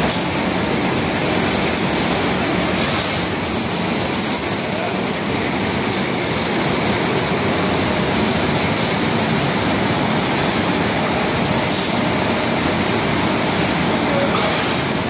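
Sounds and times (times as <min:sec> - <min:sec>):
machine running: 0:00.0 - 0:15.0.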